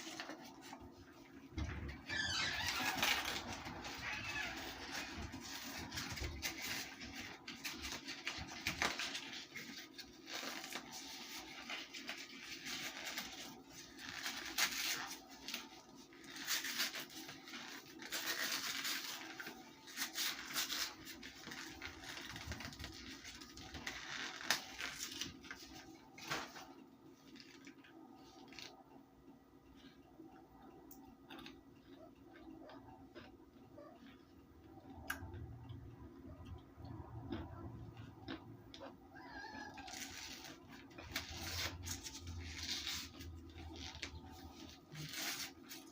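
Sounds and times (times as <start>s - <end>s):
faint steady hum: 0.0s - 45.9s
crunching and chewing: 2.8s - 29.0s, 29.6s - 45.9s.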